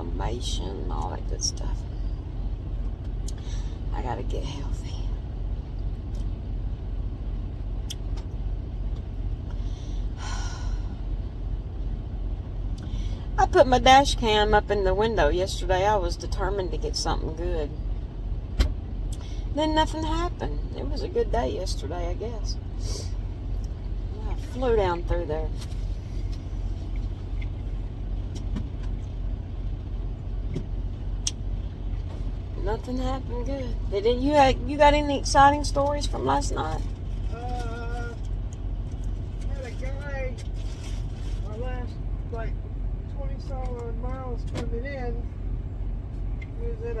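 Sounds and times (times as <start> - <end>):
truck diesel engine idling: 0.0 - 47.0.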